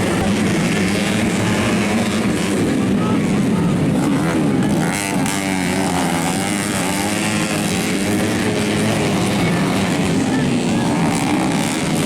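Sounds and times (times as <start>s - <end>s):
racing motorcycles revving: 0.0s - 12.0s.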